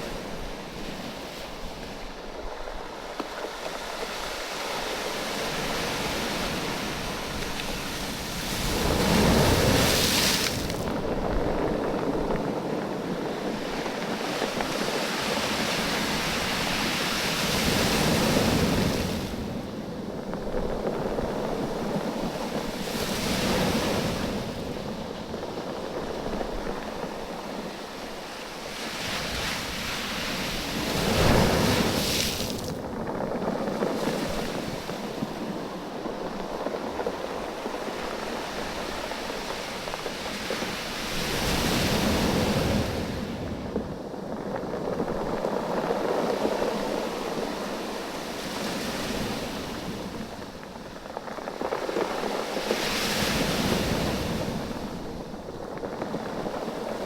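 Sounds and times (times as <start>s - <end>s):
waves washing on beach: 0.0s - 57.0s.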